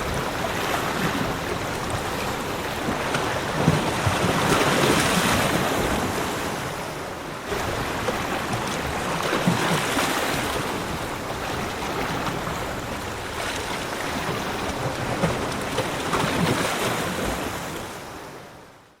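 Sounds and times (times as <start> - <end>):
sea waves washing onto shore: 0.0 - 18.7.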